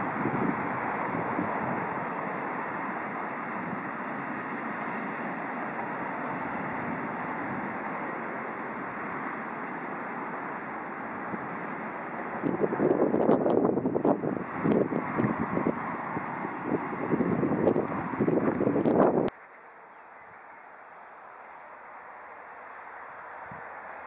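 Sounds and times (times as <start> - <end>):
steel wheels rumbling on rail: 0.0 - 19.3.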